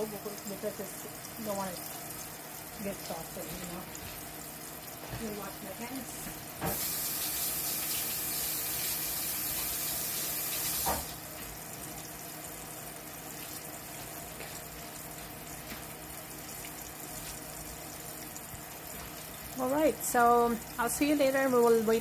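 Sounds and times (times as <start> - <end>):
kitchen tap running: 0.0 - 22.0
meat sizzling in a pan: 0.0 - 22.0.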